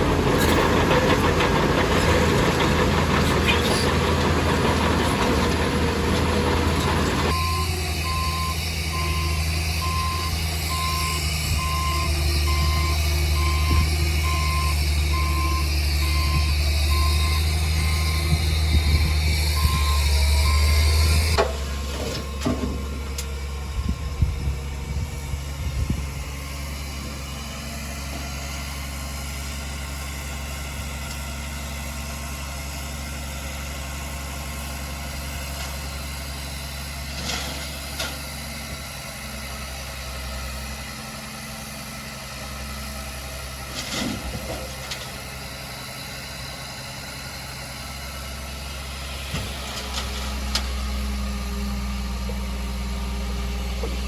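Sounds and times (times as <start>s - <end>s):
diesel engine running at low revs: 0.0s - 54.0s.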